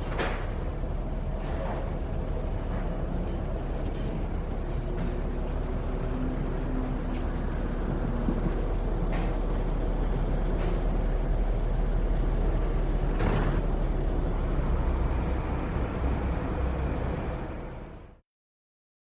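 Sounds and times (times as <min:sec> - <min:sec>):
truck engine running: 0:00.0 - 0:18.2.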